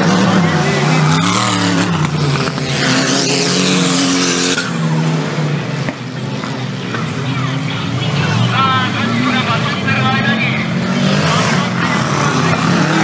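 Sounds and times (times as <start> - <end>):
race vehicle engines revving: 0.0 - 13.0.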